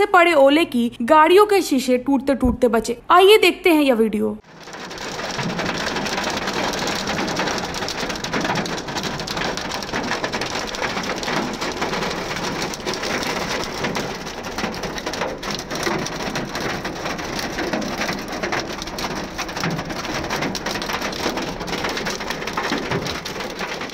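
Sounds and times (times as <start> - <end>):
hail and heavy rain pelting: 4.4 - 23.9.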